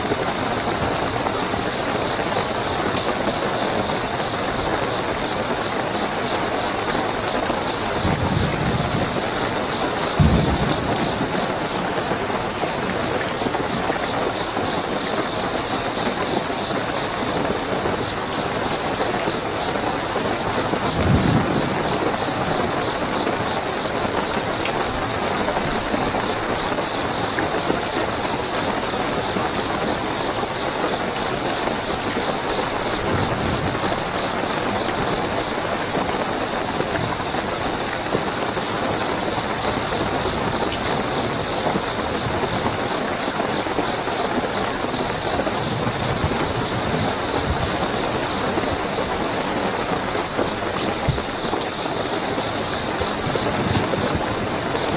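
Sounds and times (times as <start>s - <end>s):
crickets chirping: 0.0s - 54.9s
heavy rainfall: 0.0s - 54.9s.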